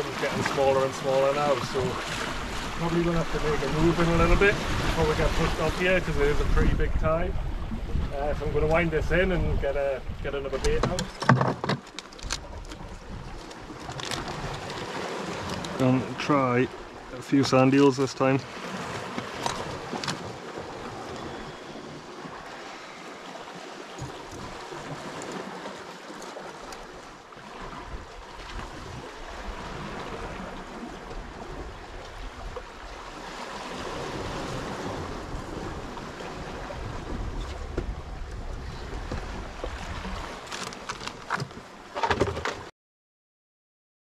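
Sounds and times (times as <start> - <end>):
surf washing on rocky shore: 0.0 - 11.2, 11.8 - 41.9.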